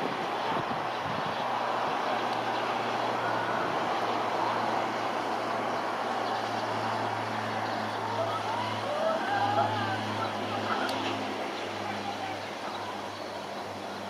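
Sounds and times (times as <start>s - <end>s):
distant road traffic: 0.0s - 14.0s.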